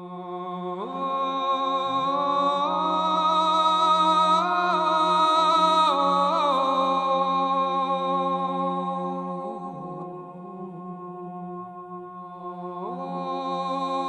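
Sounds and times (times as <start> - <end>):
chant-like melody: 0.0 - 14.0.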